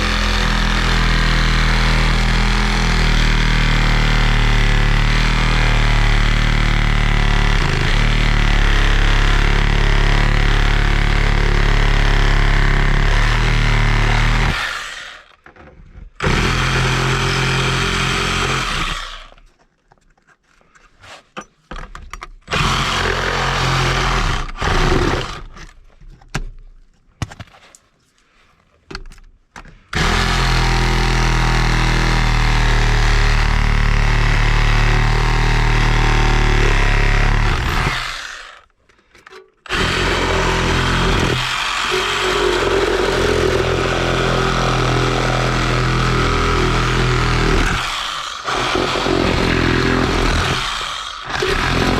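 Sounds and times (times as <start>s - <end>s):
reciprocating saw cutting: 0.0s - 15.3s, 16.2s - 19.4s, 22.5s - 25.6s, 30.0s - 38.7s, 39.7s - 51.9s.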